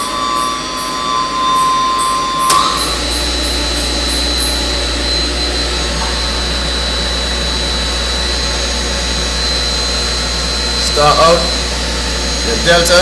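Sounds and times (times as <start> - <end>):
contactor clunk: 0.0 - 12.5
low mains hum: 0.0 - 13.0
thin high whine: 0.0 - 13.0.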